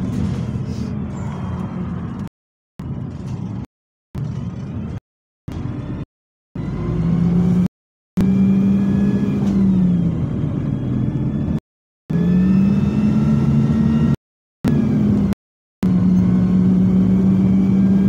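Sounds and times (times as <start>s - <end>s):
bus diesel engine accelerating: 0.0s - 18.0s.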